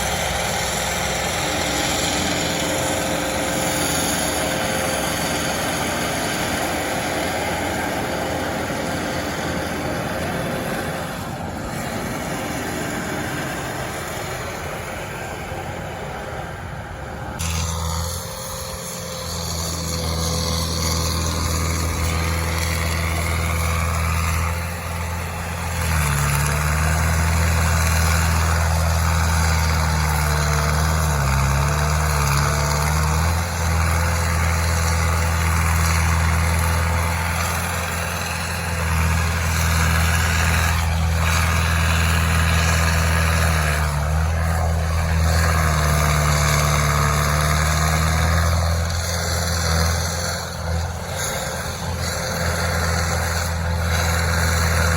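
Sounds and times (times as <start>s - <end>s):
heavy equipment engine revving: 0.0s - 54.9s.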